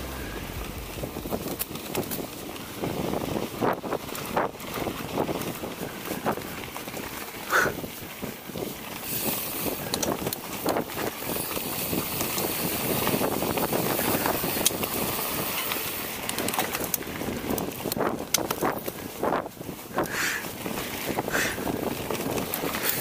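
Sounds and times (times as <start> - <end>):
bike rattling over bumps: 0.0 - 23.0
bike tyres on dirt: 0.0 - 23.0.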